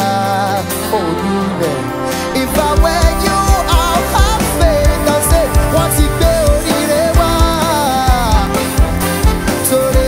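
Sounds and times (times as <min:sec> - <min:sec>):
man singing into a microphone: 0:00.0 - 0:10.0
band playing: 0:01.0 - 0:10.0.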